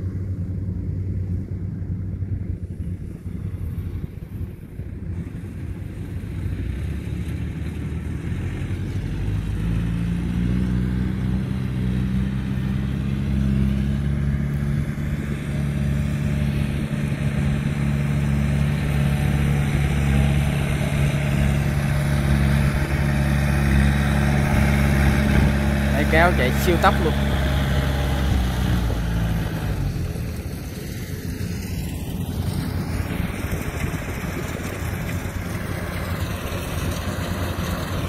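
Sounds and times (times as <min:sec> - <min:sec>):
combine harvester running: 0:00.0 - 0:38.0
tracked carrier engine running: 0:00.0 - 0:38.0.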